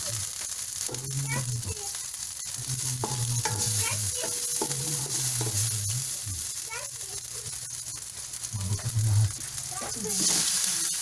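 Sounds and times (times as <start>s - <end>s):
crackles as meat is stirred: 0.0s - 11.0s
meat sizzling in a wok: 0.0s - 11.0s.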